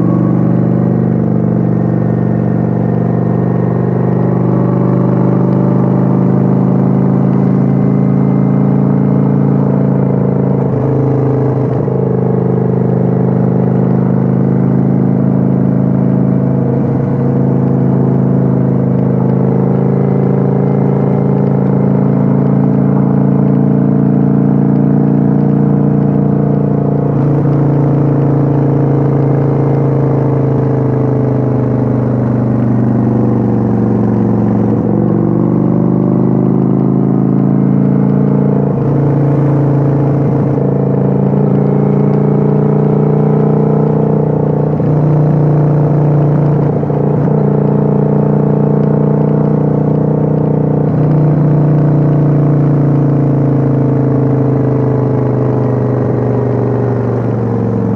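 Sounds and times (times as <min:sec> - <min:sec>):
motorcycle engine cruising: 0:00.0 - 0:57.9.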